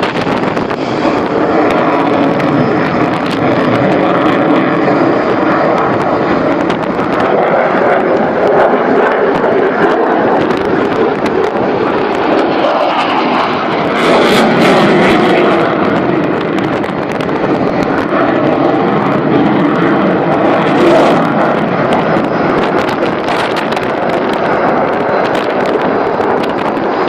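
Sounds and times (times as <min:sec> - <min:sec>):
aircraft engine noise: 0:00.0 - 0:27.0.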